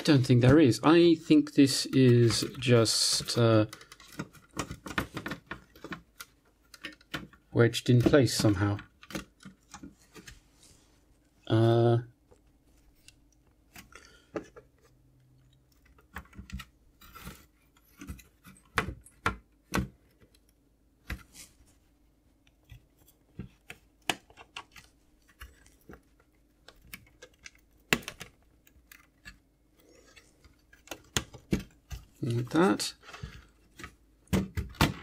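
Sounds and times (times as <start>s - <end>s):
plastic clicks knocks and scrapes: 2.2s - 10.4s, 12.3s - 21.4s, 22.4s - 35.0s.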